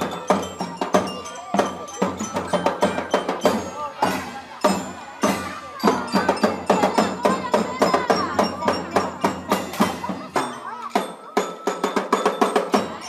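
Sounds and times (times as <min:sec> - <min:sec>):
drum strokes: 0:00.0 - 0:13.0
ringing bell-like notes: 0:00.0 - 0:13.0
voices: 0:00.0 - 0:13.0.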